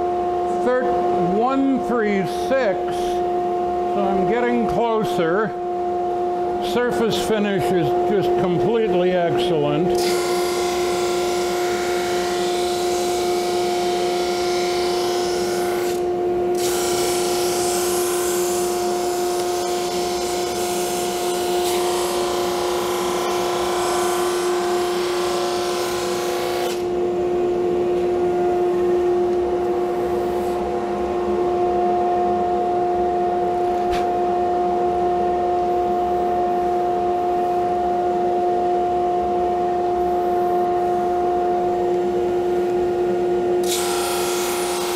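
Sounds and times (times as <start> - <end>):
drum sander humming: 0.0 - 44.9.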